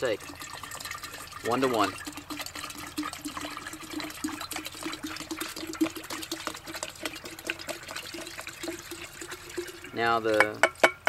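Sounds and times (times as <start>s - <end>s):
liquid pouring into glass jar: 0.0s - 11.0s.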